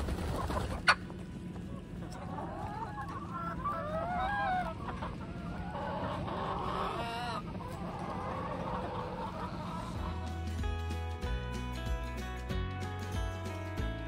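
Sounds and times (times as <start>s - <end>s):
chickens clucking: 0.0s - 12.5s.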